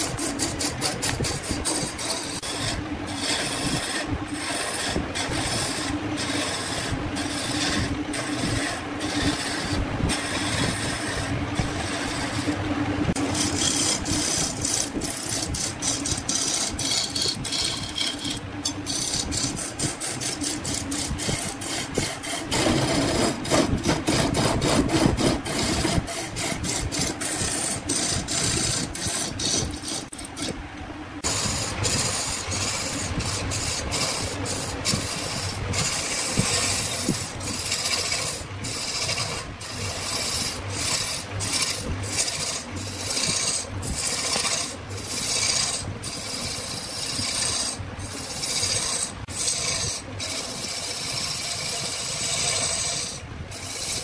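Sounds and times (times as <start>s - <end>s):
lathe tool scraping wood: 0.0s - 30.6s, 31.2s - 54.0s.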